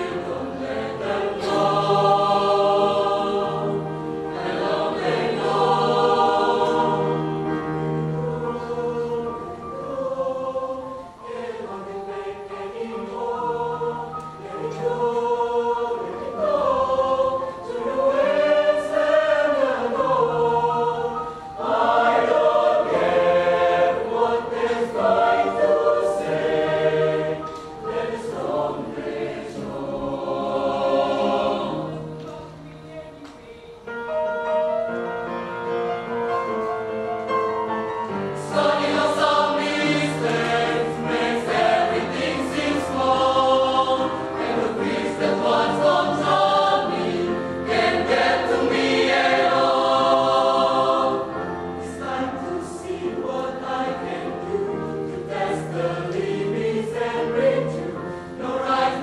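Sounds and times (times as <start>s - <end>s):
mixed choir singing: 0.0s - 34.9s, 37.6s - 59.0s.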